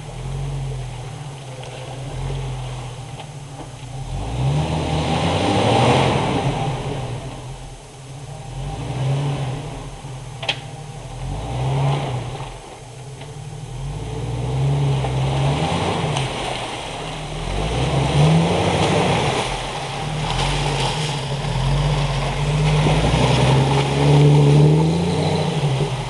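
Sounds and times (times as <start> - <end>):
engine revving: 0.0 - 7.6, 8.3 - 12.8, 13.6 - 26.0
muddy water splashing: 0.0 - 7.7, 9.0 - 26.0.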